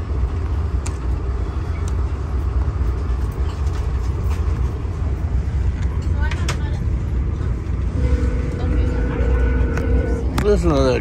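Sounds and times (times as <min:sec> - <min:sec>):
train car rumble at speed: 0:00.0 - 0:11.0.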